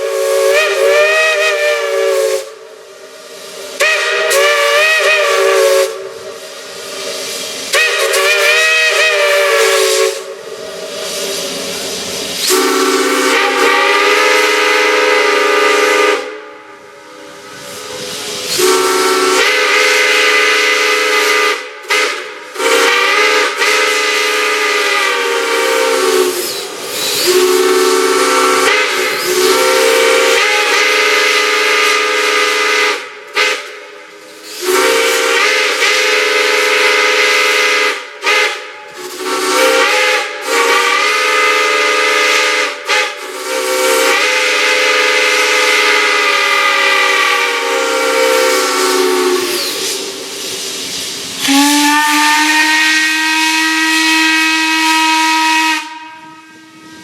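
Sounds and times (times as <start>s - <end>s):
steam whistle blasts: 0.0s - 2.8s, 3.6s - 50.6s, 51.4s - 57.0s.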